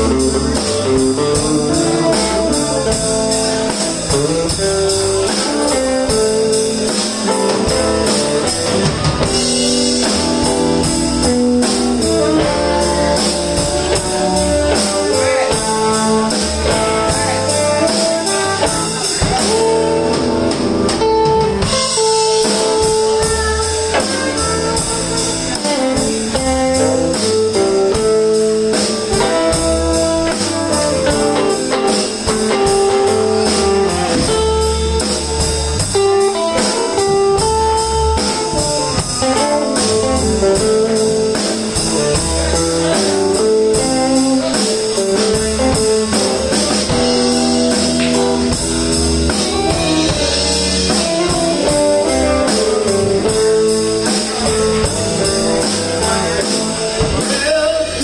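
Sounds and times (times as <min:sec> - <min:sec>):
bass: 0:00.0 - 0:58.0
drum kit: 0:00.0 - 0:58.0
electric guitar: 0:00.0 - 0:58.0.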